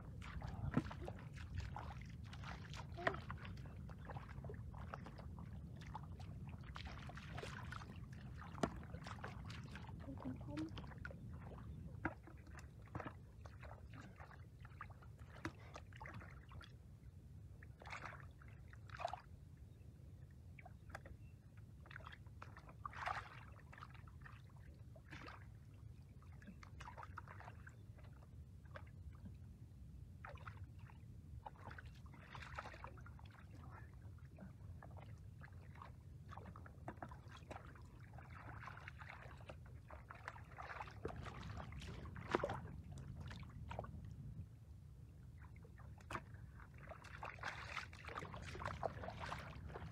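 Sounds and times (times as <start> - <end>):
splashing in muddy water: 0.1 - 16.8, 17.7 - 19.3, 21.9 - 29.4, 30.2 - 44.1, 45.3 - 49.9.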